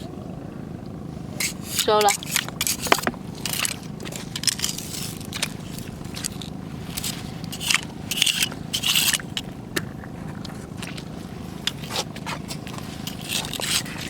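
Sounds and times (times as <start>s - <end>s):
rocks and shells crunching: 1.4s - 14.0s.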